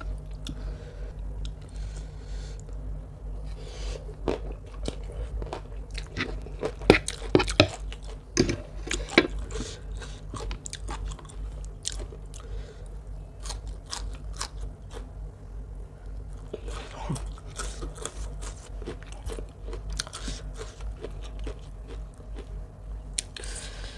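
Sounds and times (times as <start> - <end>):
person chewing crunchy food: 3.4 - 15.2, 16.0 - 23.9.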